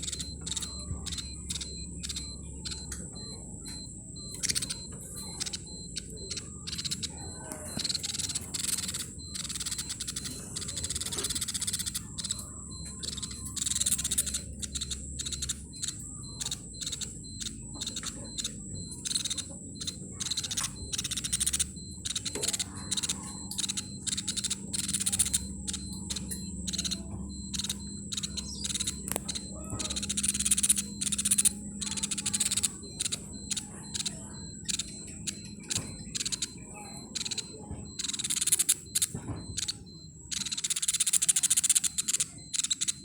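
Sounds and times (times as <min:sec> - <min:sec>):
faint steady high tone: 0:00.0 - 0:43.0
songbird chirping: 0:00.0 - 0:43.0.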